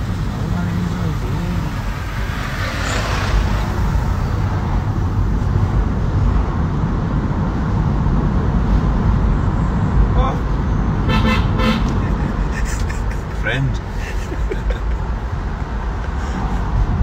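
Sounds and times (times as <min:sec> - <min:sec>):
passing traffic: 0:00.0 - 0:17.0
road and tyre rumble: 0:00.0 - 0:17.0.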